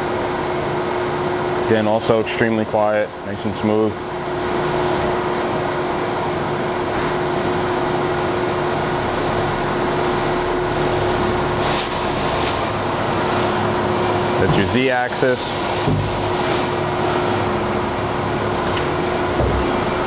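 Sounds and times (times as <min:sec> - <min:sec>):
grinder machine humming: 0:03.4 - 0:20.0.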